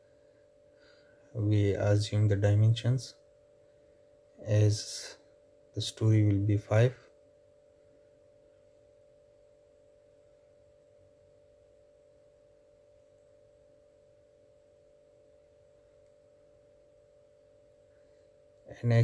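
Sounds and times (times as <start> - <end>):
faint electrical tone: 0.0 - 19.0
low background hiss: 0.0 - 19.0.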